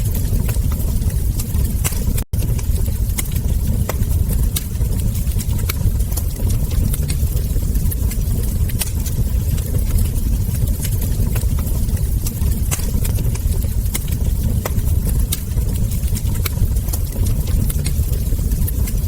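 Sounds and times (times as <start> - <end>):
low rumble: 0.0 - 19.0
wood fire crackling: 0.0 - 19.0.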